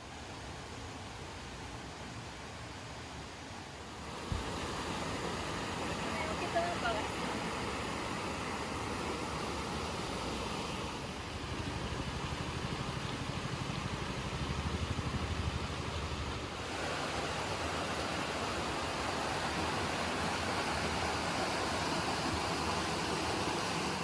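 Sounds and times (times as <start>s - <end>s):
steady rushing noise: 4.0s - 24.0s.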